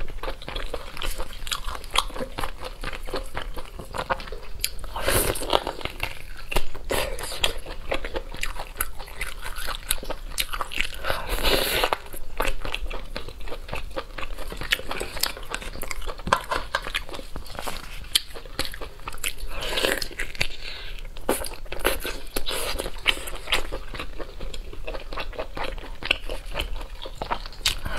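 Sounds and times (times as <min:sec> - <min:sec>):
close-miked chewing: 0:00.0 - 0:27.9.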